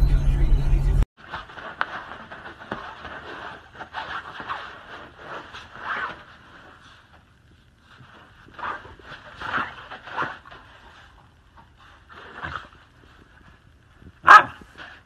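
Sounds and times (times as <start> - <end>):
puppy shifting on fabric cot: 1.2 - 15.0.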